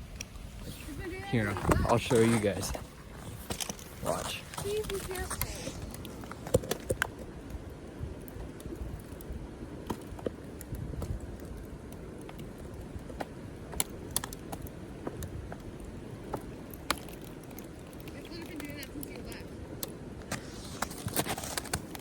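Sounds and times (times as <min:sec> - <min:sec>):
river ice cracking: 0:00.0 - 0:22.0.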